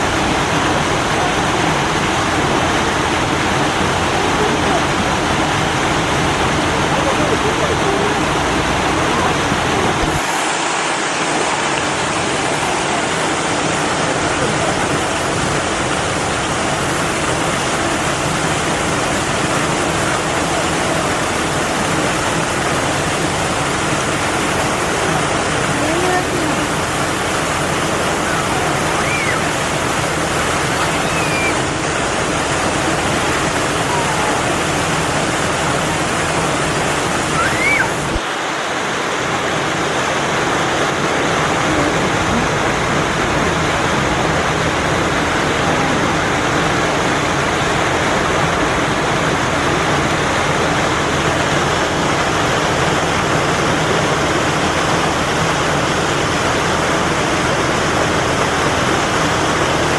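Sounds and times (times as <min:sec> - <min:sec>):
steady rushing noise: 0:00.0 - 0:59.9.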